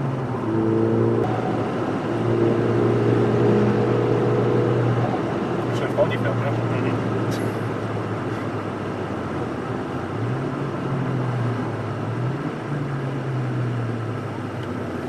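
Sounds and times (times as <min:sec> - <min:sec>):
car engine revving: 0:00.0 - 0:15.0
road and wind noise: 0:00.0 - 0:15.0.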